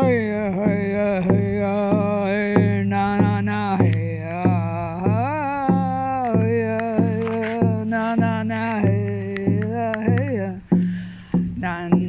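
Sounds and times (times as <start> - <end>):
drum beaten in slow pulse: 0.0 - 12.0
person singing wordless tones: 0.0 - 12.0.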